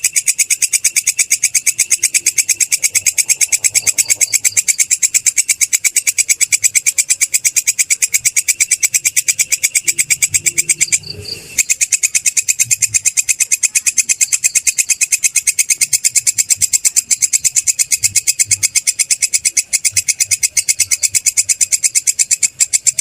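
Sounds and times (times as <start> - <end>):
katydid chirping: 0.0 - 23.0.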